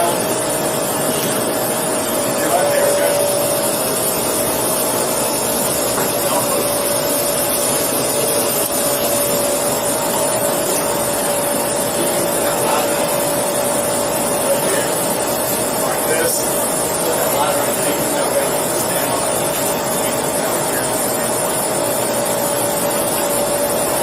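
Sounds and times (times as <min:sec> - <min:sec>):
constant mid-pitched hum: 0:00.0 - 0:24.0.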